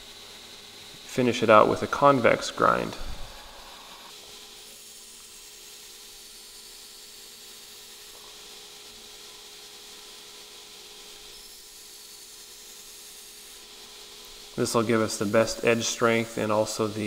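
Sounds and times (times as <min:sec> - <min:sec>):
grinder motor hum: 0:00.0 - 0:17.0
steel grinding on abrasive belt: 0:00.0 - 0:17.0.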